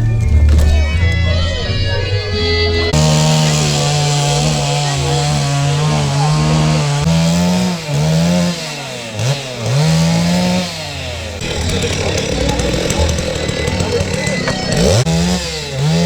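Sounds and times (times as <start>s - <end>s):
chainsaw cutting wood: 0.5s - 16.0s.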